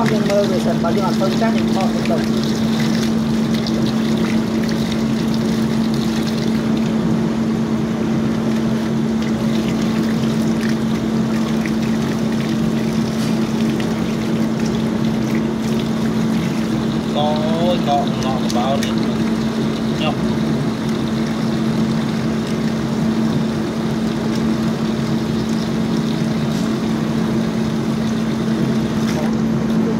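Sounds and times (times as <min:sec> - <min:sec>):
water spraying onto wet concrete: 0:00.0 - 0:07.5, 0:08.2 - 0:29.9
electric water pump humming: 0:00.0 - 0:29.9.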